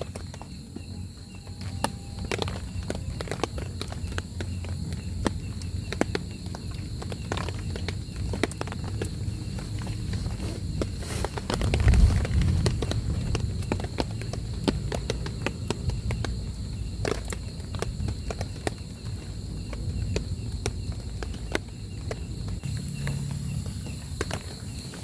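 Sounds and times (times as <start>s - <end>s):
large raindrops tapping: 0.0s - 25.0s.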